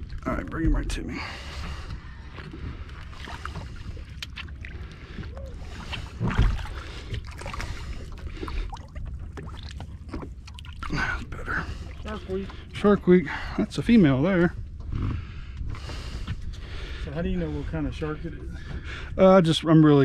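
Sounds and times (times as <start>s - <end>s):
water sloshing: 0.0s - 18.9s.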